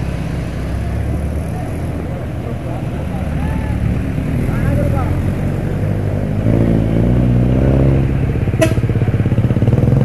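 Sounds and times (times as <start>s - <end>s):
vehicles passing close by: 0.0s - 10.0s.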